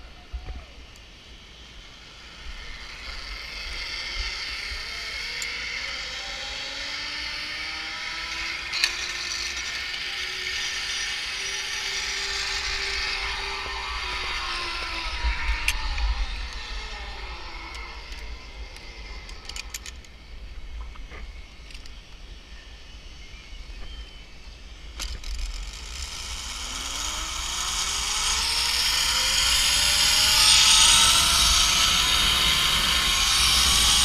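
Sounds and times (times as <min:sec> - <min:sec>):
pulleys whirring on a cable: 0:01.8 - 0:20.1, 0:24.8 - 0:34.0.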